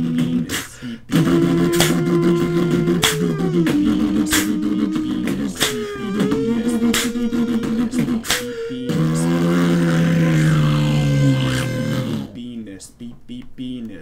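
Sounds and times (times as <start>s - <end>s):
beatboxed mouth percussion: 0.0s - 12.5s
layered a cappella voices: 0.0s - 13.9s.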